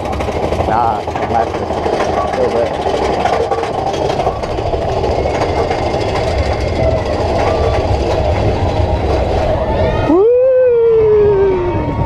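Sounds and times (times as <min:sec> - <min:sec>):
wheels clattering on rails: 0:00.0 - 0:10.2
roller coaster train rumbling: 0:00.0 - 0:12.0.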